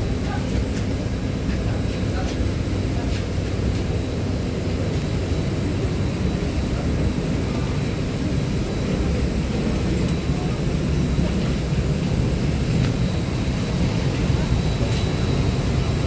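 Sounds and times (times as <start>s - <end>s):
airliner low rumble: 0.0s - 16.0s.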